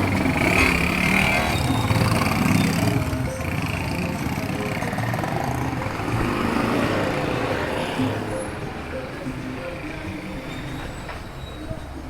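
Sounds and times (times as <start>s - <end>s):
background music: 0.0s - 12.0s
vehicle passing: 0.0s - 12.0s.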